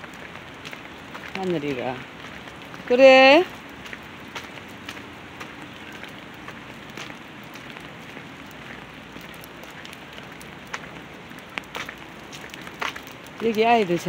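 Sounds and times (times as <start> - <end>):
raindrops tapping: 0.0 - 14.0
steady rain hiss: 0.0 - 14.0.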